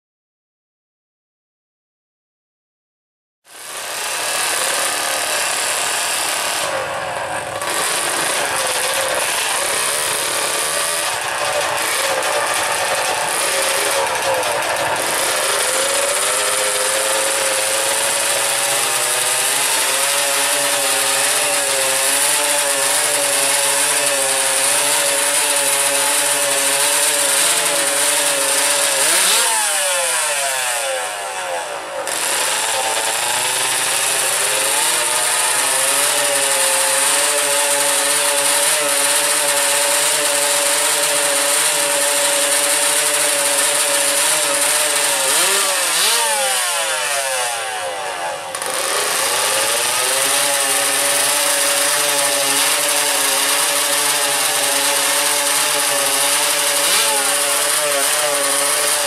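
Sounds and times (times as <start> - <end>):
motorcycle engines revving: 3.5 - 59.0.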